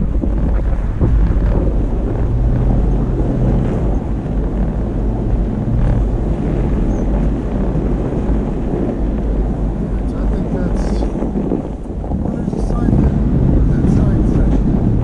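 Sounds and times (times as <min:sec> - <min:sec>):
car engine drone: 0:00.0 - 0:15.0
tyre and road rumble: 0:00.0 - 0:15.0.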